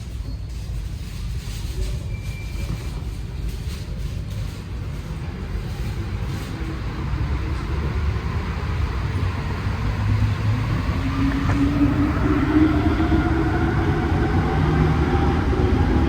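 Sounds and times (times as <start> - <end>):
metro train running rumble: 0.0 - 16.0.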